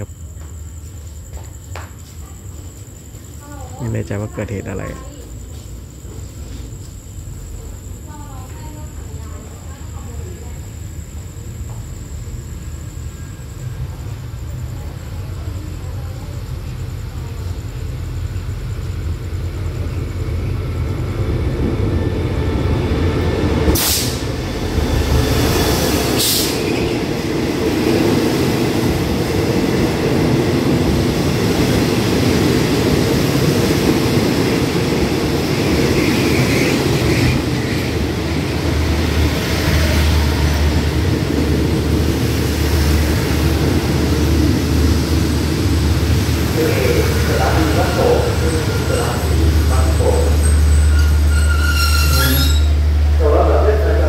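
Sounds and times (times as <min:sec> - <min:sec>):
diesel locomotive rumble: 0:04.9 - 0:54.0
train wheels rumbling and clattering: 0:04.9 - 0:54.0.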